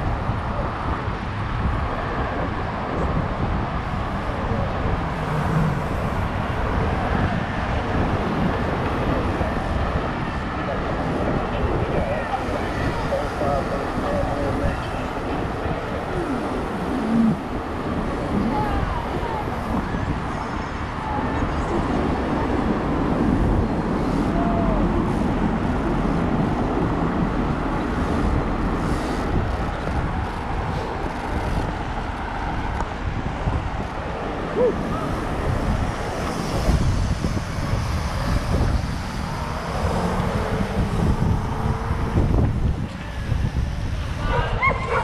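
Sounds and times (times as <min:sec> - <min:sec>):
freeway traffic noise: 0:00.0 - 0:45.0.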